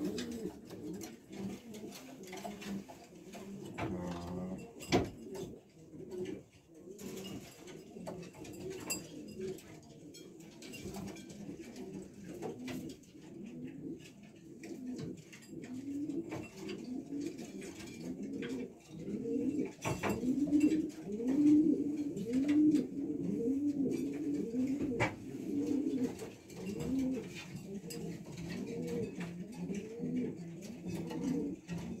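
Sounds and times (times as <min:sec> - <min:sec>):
pigeons cooing: 0:00.0 - 0:32.0.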